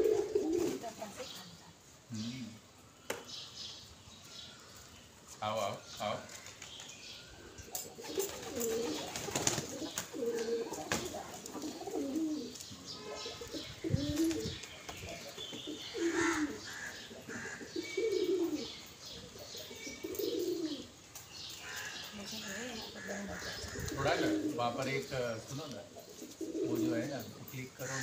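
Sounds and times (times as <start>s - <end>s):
pigeons cooing: 0.0s - 2.8s, 7.3s - 28.0s.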